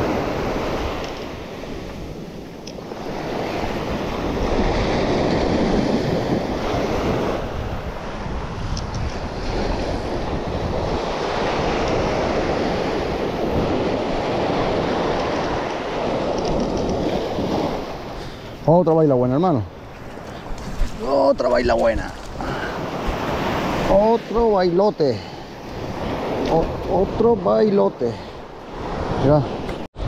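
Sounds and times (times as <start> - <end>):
wind on microphone: 0.0 - 18.7, 19.6 - 30.0
surf washing onto beach: 0.0 - 30.0.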